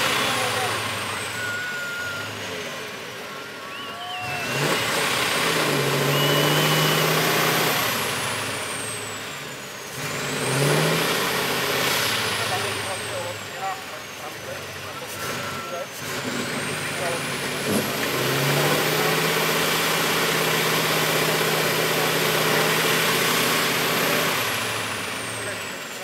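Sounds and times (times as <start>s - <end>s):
diesel truck engine revving: 0.0s - 26.0s
high engine whine: 0.0s - 26.0s.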